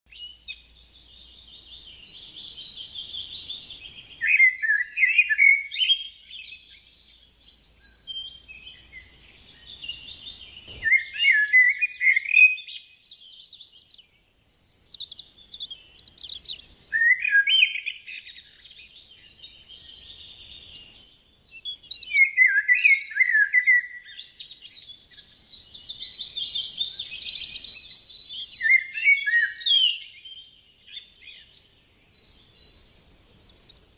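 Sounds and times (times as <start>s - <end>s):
bird song trills: 0.1s - 33.9s.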